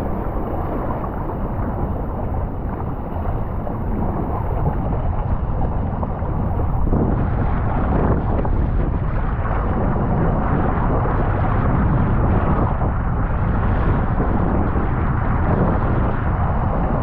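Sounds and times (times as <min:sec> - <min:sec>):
rushing water rumble: 0:00.0 - 0:17.0
wind buffeting microphone: 0:00.0 - 0:17.0.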